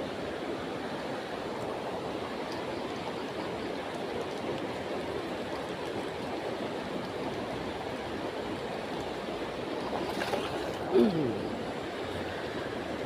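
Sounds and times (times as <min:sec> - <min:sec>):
water rushing: 0:00.1 - 0:13.0.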